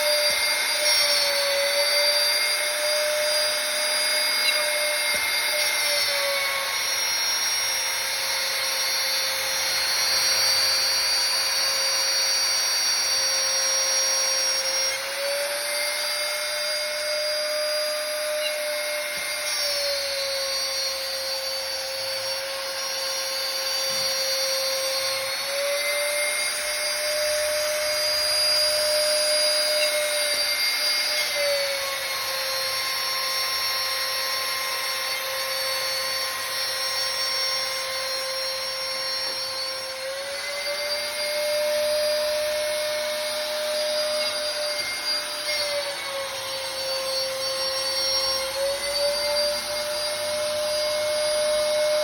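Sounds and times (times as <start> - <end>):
router spindle whine: 0.0 - 52.0.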